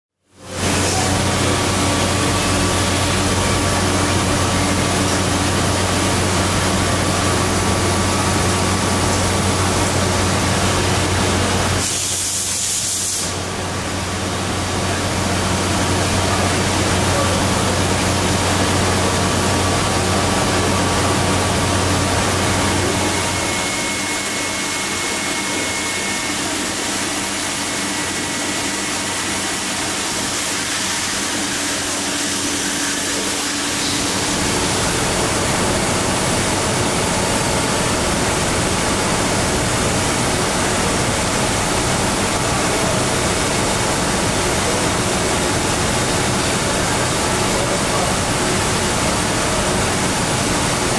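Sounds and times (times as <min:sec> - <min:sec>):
surface grinder hum with hiss: 0:00.4 - 0:50.9.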